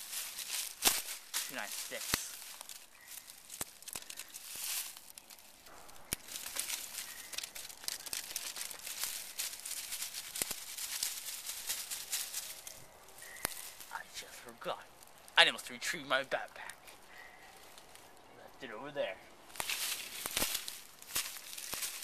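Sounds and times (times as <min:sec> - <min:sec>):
dry leaves rustling and crackling: 0:00.0 - 0:22.0
twigs cracking: 0:00.0 - 0:22.0.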